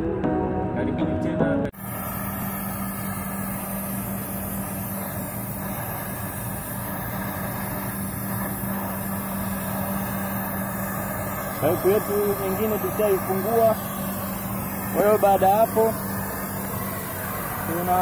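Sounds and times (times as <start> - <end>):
gas welding torch burning: 1.8 - 18.0
steady low hum: 1.8 - 18.0.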